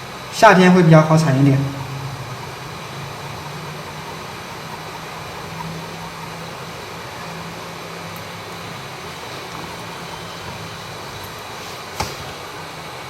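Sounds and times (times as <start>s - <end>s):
faint blower hum: 0.0s - 13.0s
hot air station airflow hiss: 0.0s - 13.0s.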